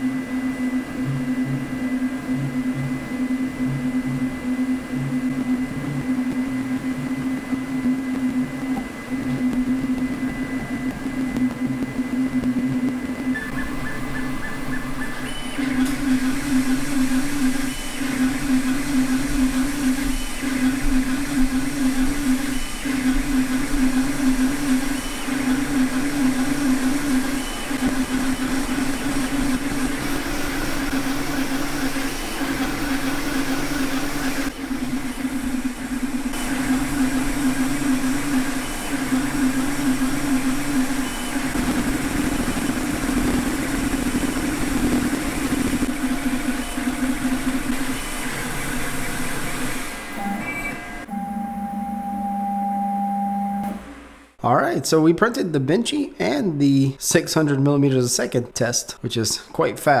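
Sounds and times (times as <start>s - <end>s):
printer motors humming and warbling: 0.0s - 52.5s.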